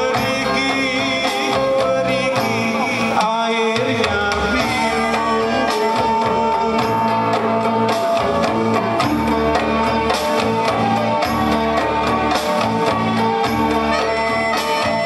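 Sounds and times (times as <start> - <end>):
karaoke backing music: 0.0 - 15.0.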